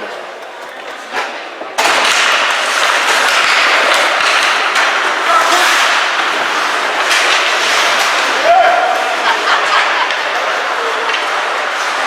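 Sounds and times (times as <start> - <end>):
ice hockey rink din: 0.0 - 12.0
sharp cracks of sticks and puck: 0.0 - 12.0.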